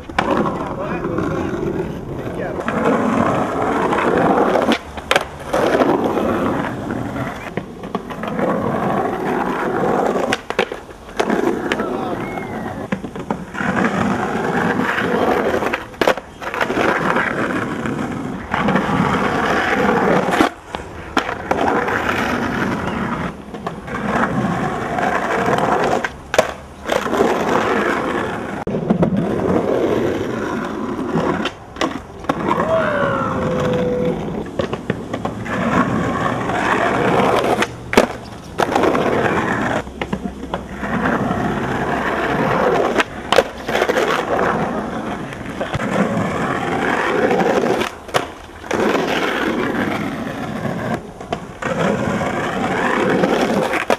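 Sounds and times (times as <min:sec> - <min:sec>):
skateboard clacks: 0:00.0 - 0:53.9
skateboard wheels rolling: 0:00.0 - 0:53.9.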